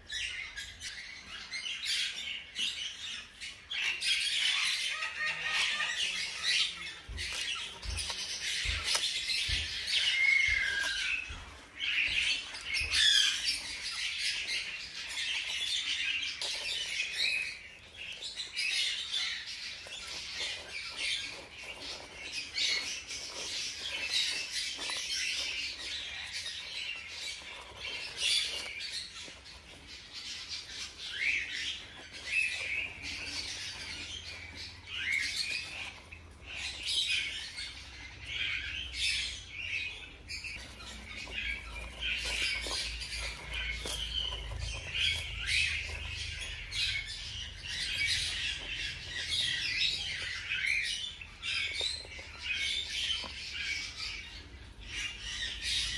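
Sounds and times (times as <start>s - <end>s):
hamster pups squeaking: 0.0s - 55.9s
seed husks crackling: 5.6s - 55.4s.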